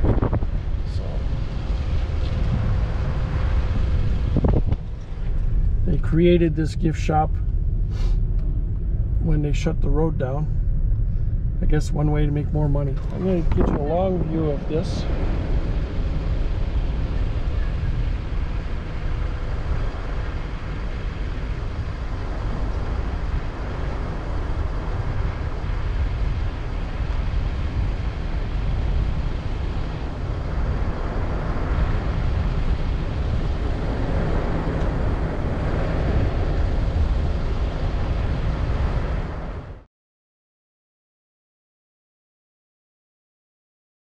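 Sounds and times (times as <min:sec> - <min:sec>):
car driving rumble: 0:00.0 - 0:39.7
wind buffeting microphone: 0:00.0 - 0:39.8.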